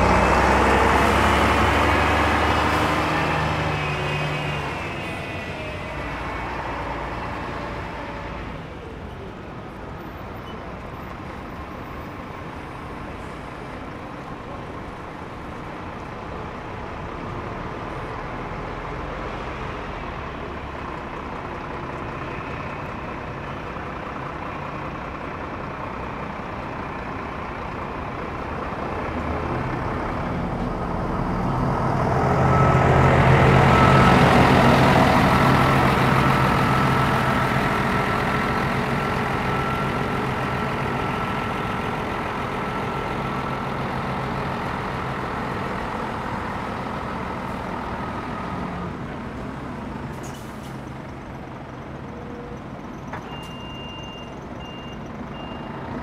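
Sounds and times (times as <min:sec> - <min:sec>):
heavy vehicle engine passing: 0:00.0 - 0:56.0
traffic hum: 0:00.0 - 0:56.0.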